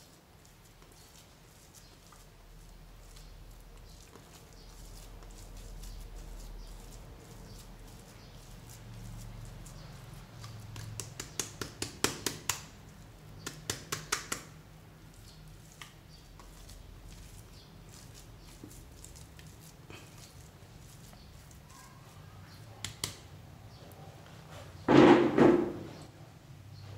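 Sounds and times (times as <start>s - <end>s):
slime squishing: 0.0s - 23.2s.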